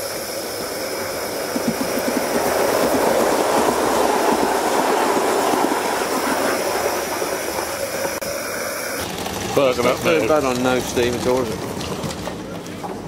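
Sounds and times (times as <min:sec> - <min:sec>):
model train wheels on rails: 0:00.0 - 0:13.0.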